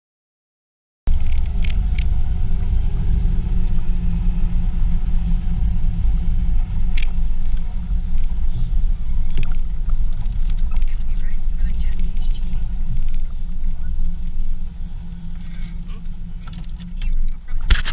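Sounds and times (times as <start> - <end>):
car engine and road noise: 1.1 - 17.9.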